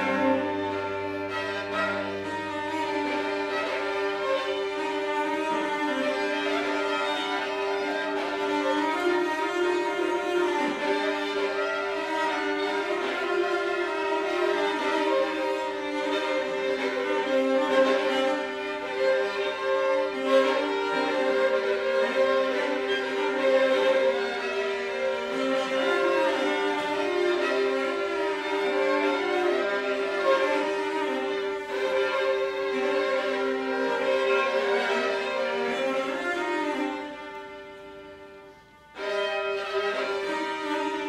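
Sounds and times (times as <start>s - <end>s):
violin and cello duet: 0.0s - 41.0s.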